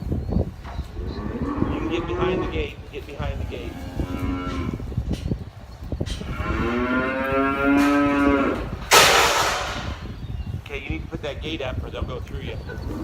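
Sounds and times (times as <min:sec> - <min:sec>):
calves bawling: 0:00.0 - 0:13.0.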